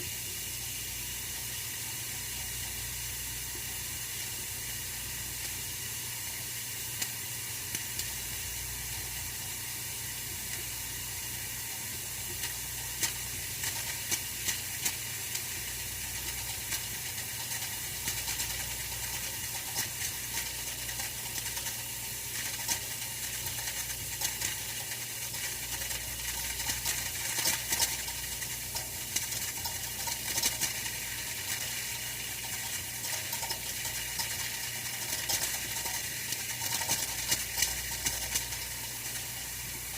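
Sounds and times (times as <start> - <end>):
heater hissing: 0.0 - 39.9
heater ticking and crackling: 0.0 - 39.9.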